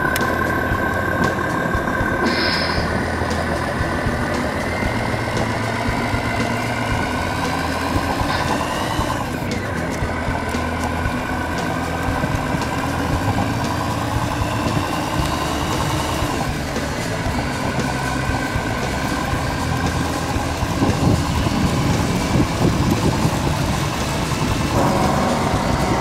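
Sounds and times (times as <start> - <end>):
diesel truck engine through small speaker: 0.0 - 26.0
whine falling in pitch: 0.0 - 26.0.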